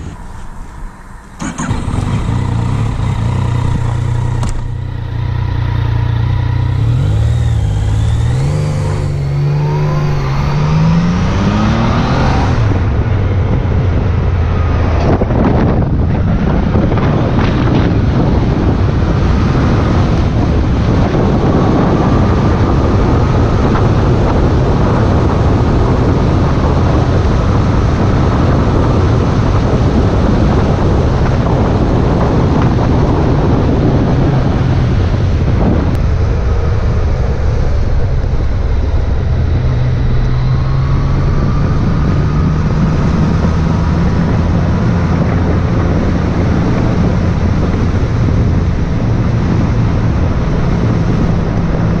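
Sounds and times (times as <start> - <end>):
motorcycle engine running: 0.0 - 52.0
wind buffeting microphone: 0.0 - 52.0.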